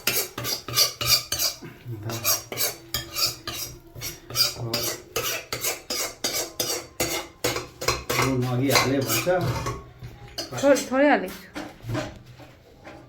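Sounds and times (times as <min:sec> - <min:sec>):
spoon scraping a cooking pot: 0:00.0 - 0:13.0.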